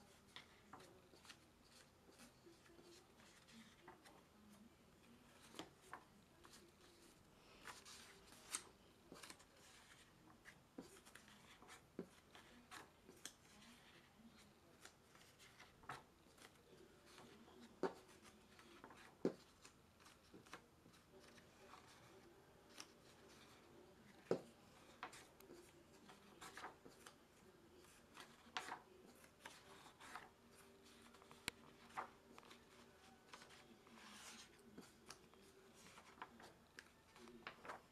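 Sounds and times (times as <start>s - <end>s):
paper rustling: 0.0s - 37.9s.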